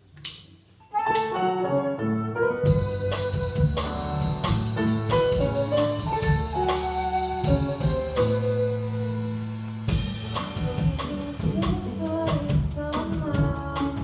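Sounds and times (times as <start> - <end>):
band melody of held notes: 0.8 - 14.0
bass and drum kit beat: 2.6 - 14.0.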